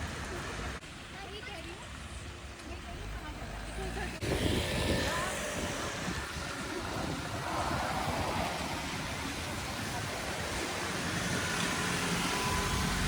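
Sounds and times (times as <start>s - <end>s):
rain: 0.0s - 3.8s, 5.4s - 13.0s
traffic on wet roads: 0.0s - 13.0s.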